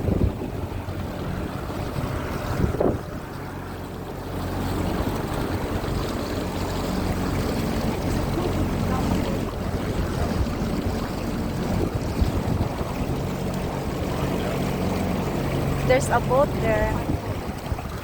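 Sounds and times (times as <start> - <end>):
motorboat engine humming: 0.0 - 18.0
water rushing along hull: 0.0 - 18.0
wind on microphone: 0.0 - 18.0.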